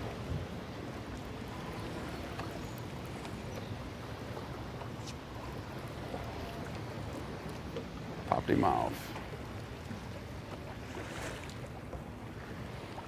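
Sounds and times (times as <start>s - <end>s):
turbulent water churning: 0.0s - 13.0s.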